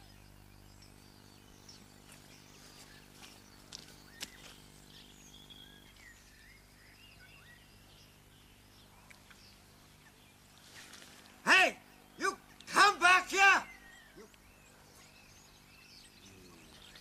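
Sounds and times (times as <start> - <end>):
faint birdsong chirps: 0.0 - 17.0
low steady hum: 0.0 - 17.0.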